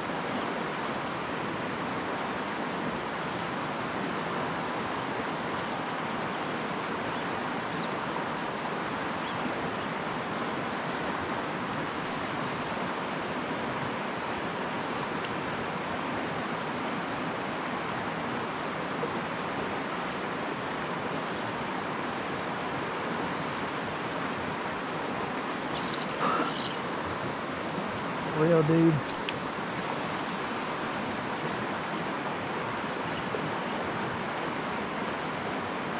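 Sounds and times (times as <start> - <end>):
stream flowing over rocks: 0.0 - 35.9.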